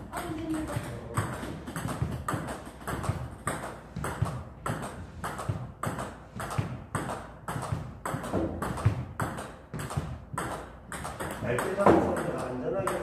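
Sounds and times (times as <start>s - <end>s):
ping pong ball clicking off paddles: 0.0s - 13.0s
ball bouncing on table: 0.1s - 13.0s.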